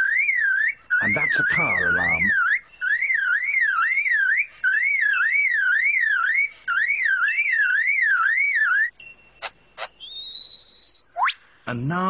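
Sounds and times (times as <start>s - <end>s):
lyrebird mimicking car alarm: 0.0s - 11.4s.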